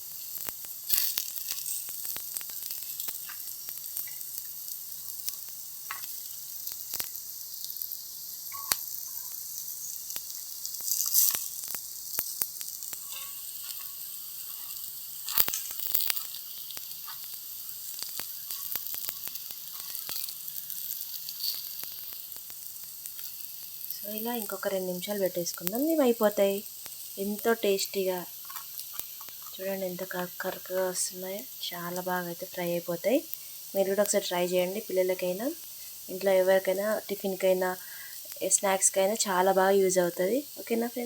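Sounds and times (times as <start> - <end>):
food sizzling in hot oil: 0.0 - 41.0.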